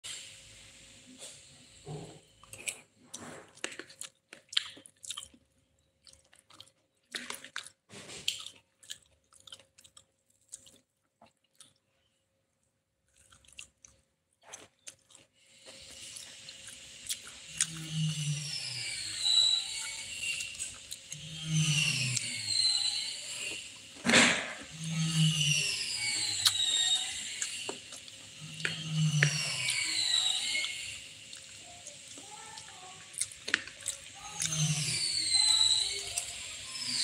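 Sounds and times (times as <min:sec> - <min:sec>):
chewing and crunching food: 0:02.0 - 0:24.0, 0:24.6 - 0:36.9.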